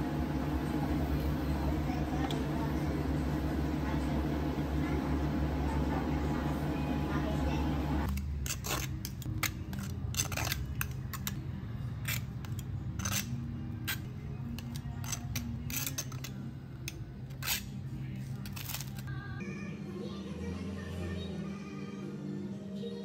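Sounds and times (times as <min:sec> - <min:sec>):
faint background music: 0:00.6 - 0:23.0.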